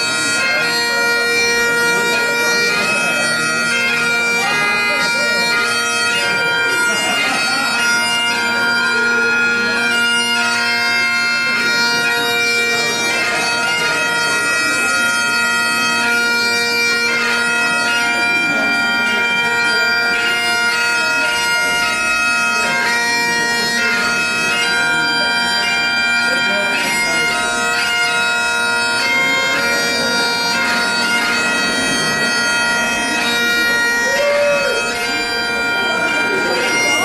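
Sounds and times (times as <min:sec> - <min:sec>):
bagpipes playing a tune: 0:00.0 - 0:37.0.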